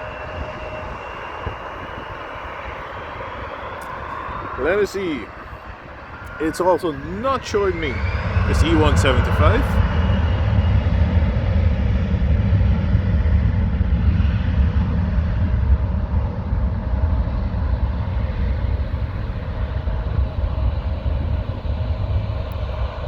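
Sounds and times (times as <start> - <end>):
faint high engine whine: 0.0 - 23.0
jet engines roaring: 0.0 - 23.0.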